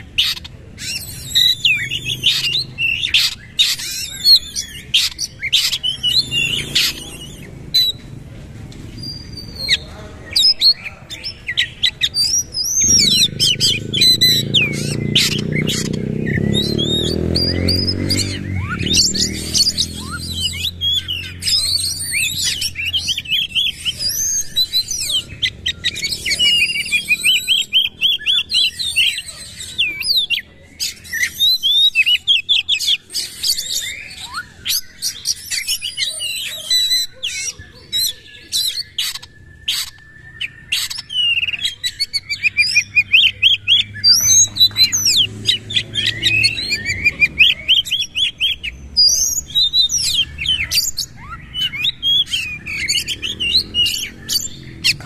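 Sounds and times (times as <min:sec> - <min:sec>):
bird singing sharp notes: 0:00.0 - 0:55.0.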